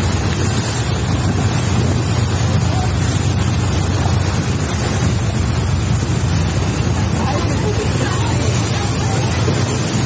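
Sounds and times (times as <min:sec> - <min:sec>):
floodwater rushing: 0:00.0 - 0:10.0
wind buffeting microphone: 0:00.0 - 0:10.0.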